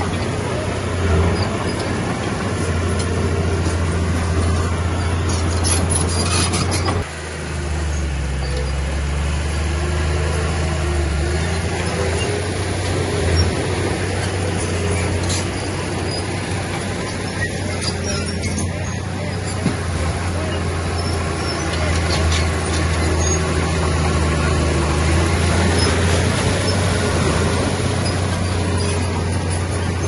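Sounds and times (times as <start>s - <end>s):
machinery clatter: 0.0s - 7.1s, 10.2s - 30.0s
diesel machinery engine drone: 0.0s - 30.0s.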